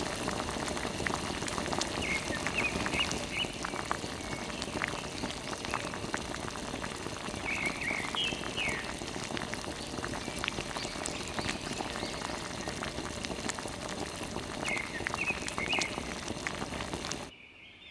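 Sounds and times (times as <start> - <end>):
water spraying and splashing: 0.0 - 17.3.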